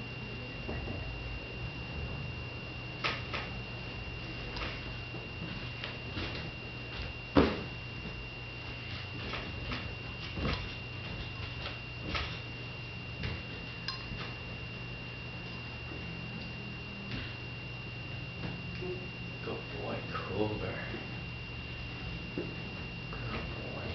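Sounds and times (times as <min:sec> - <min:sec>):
low hum: 0:00.0 - 0:23.9
steady high whine: 0:00.0 - 0:23.9.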